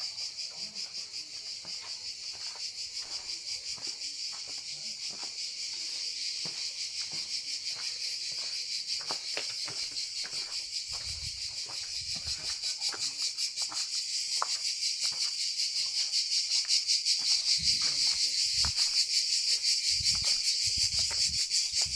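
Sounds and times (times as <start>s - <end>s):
insects shrilling: 0.0s - 21.9s.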